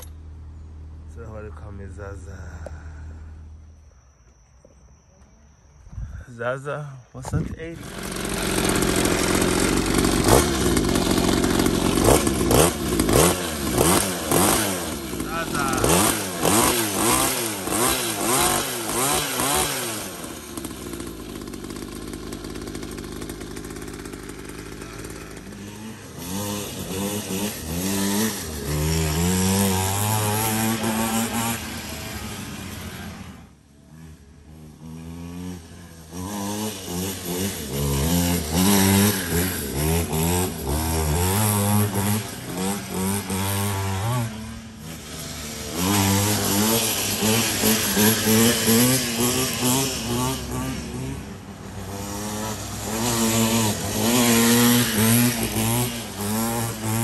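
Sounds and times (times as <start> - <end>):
two-stroke dirt bike engine revving: 7.2 - 57.0.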